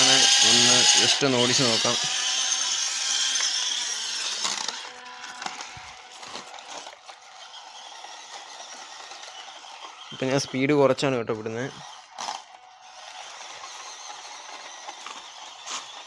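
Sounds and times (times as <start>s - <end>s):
electric motor and gearbox whining: 0.0s - 16.0s.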